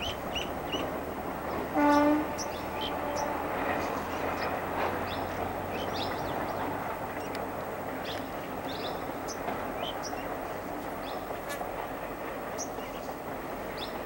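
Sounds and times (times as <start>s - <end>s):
birds chirping: 0.0s - 11.3s
distant train rumbling: 0.0s - 14.0s.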